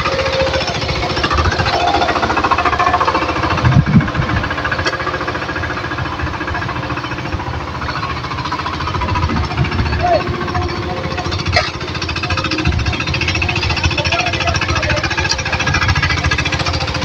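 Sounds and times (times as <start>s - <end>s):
diesel engine chugging: 0.0s - 17.0s
engine knocks: 0.0s - 17.0s.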